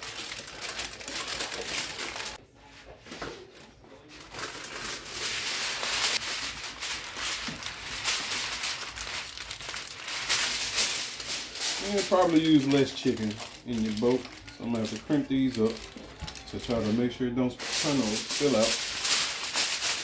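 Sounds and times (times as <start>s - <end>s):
aluminium foil crinkling: 0.0s - 2.4s, 4.0s - 20.0s.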